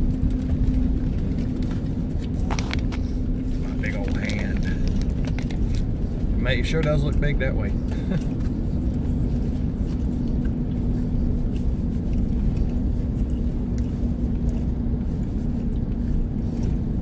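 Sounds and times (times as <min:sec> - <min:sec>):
vehicle running rumble: 0:00.0 - 0:17.0.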